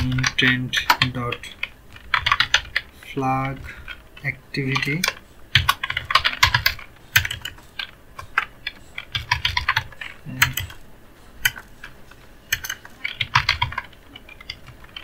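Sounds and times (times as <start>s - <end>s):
computer keyboard typing: 0.0s - 15.0s.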